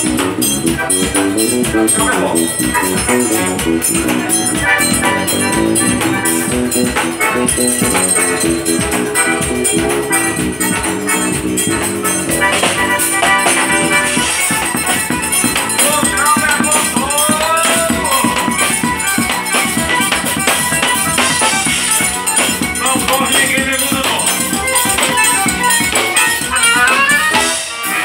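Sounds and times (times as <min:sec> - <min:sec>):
accordion: 0:00.0 - 0:28.0
electric bass: 0:00.0 - 0:28.0
fast dense percussion: 0:00.0 - 0:28.0.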